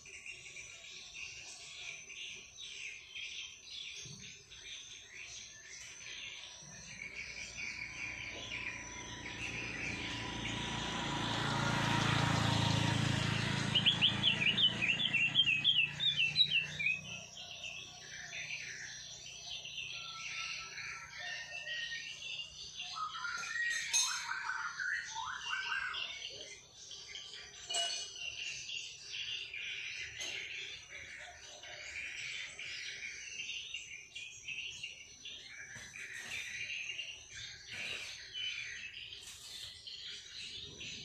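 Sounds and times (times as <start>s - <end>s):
small songbirds chirping and singing: 0.0s - 41.0s.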